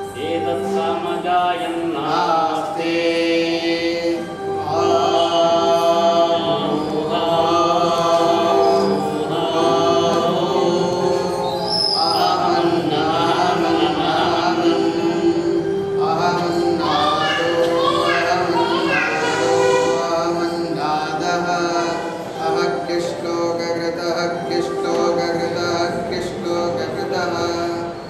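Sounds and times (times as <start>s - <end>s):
devotional chant-like singing: 0.0s - 28.0s
steady drone: 0.0s - 28.0s.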